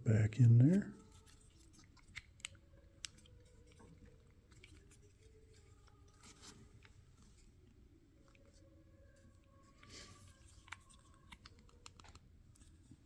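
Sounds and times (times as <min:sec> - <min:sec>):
faint scrapes and ticks: 0:00.4 - 0:13.0.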